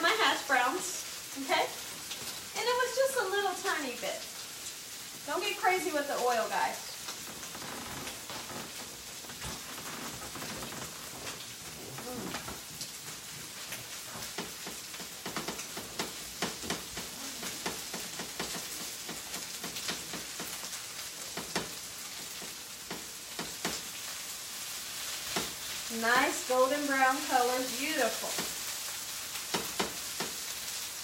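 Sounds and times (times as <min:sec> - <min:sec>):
hash browns sizzling in oil: 0:00.0 - 0:31.0.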